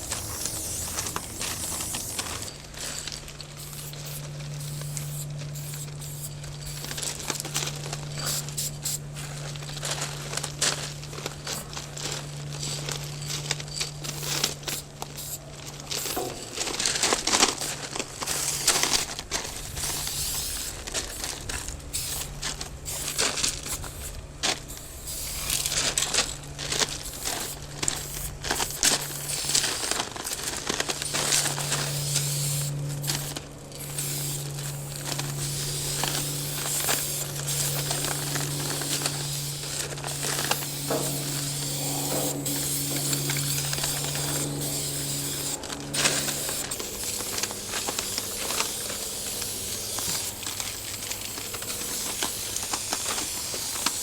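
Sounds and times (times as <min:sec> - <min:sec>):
spray paint cans hissing: 0:00.0 - 0:54.0
steady low hum: 0:00.0 - 0:54.0.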